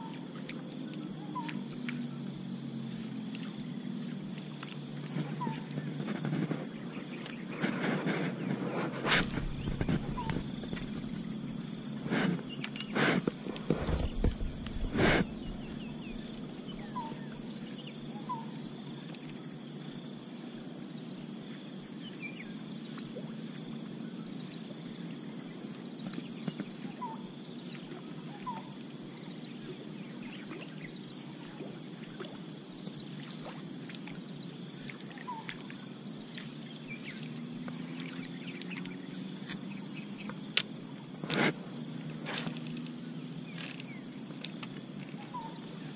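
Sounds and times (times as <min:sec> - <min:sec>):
insect chorus buzzing: 0:00.0 - 0:45.9.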